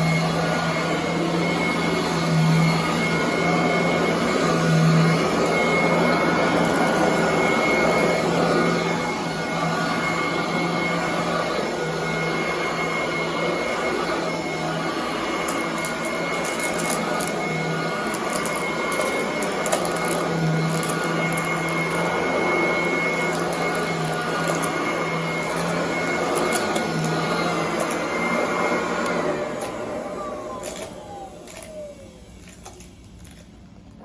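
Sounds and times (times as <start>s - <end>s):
upright vacuum cleaner running: 0.0s - 34.0s.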